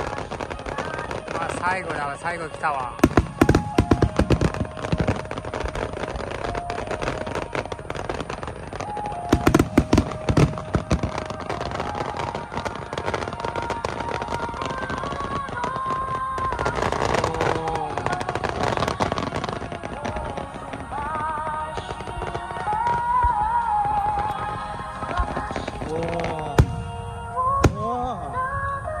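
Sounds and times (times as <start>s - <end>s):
fireworks bursting: 0.0s - 29.0s
music with held melody: 0.1s - 17.2s, 18.0s - 29.0s.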